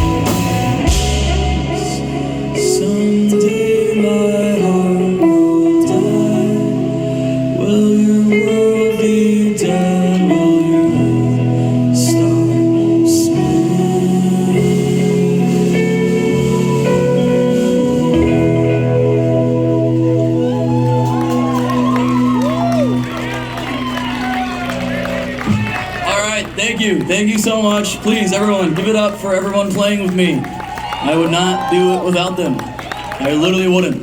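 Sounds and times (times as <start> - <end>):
guitars holding long notes: 0.0 - 34.0.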